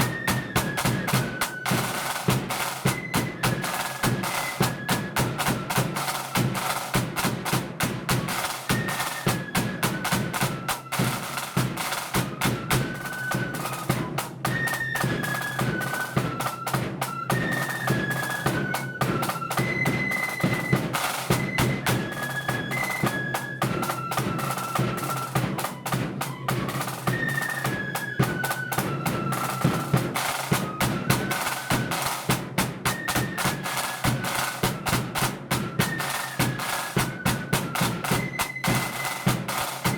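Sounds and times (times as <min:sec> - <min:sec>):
flute melody: 0:00.0 - 0:39.9
rapid snare drumming: 0:00.0 - 0:39.9.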